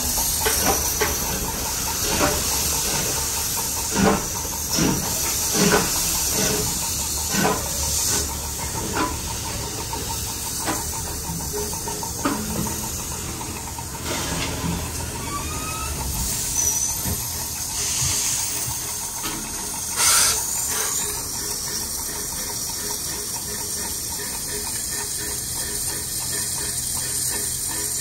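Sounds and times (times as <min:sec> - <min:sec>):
steam locomotive hissing: 0:00.0 - 0:28.0.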